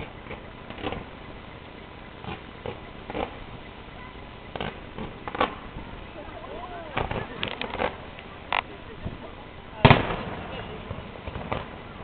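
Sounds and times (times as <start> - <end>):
background rumble: 0.0 - 12.0
fireworks bangs: 0.0 - 12.0.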